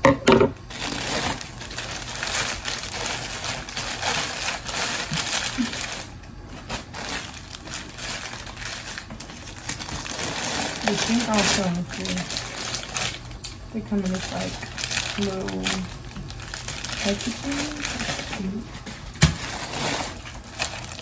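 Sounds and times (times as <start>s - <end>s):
plastic packaging crinkling: 0.7s - 21.0s.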